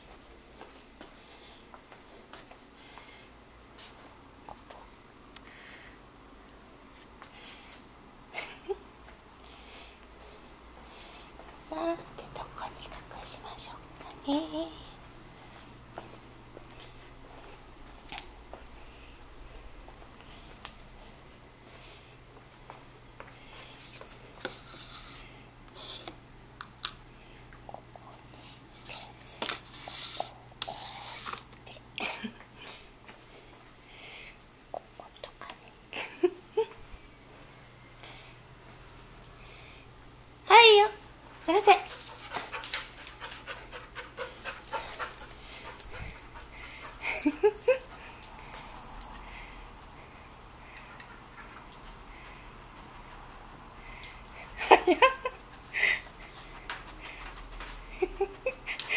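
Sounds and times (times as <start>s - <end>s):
low electrical hum: 0.0s - 58.9s.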